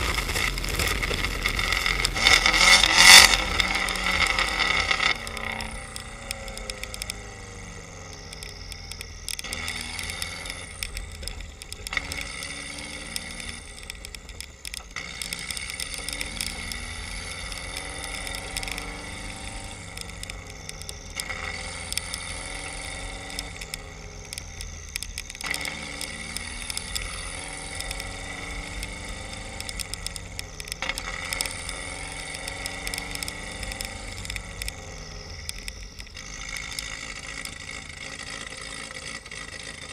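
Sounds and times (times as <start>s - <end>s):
exhaust popping and crackling: 0.0s - 39.9s
turbocharged engine rising and falling: 0.0s - 39.9s.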